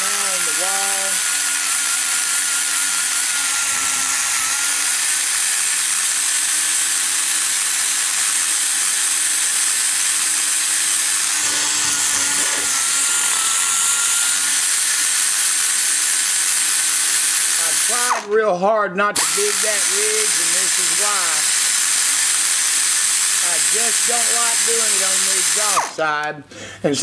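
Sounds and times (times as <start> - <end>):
die grinder cutting metal: 0.0 - 18.4, 19.2 - 26.3.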